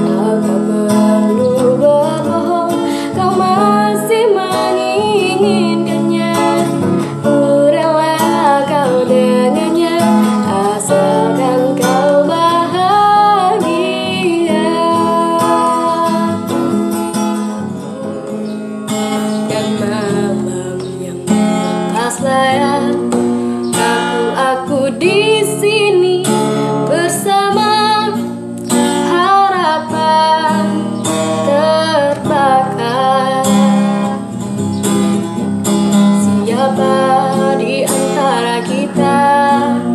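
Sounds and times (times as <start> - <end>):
woman singing: 0.0 - 16.8, 19.3 - 34.3, 36.0 - 39.9
acoustic guitar: 0.0 - 39.9.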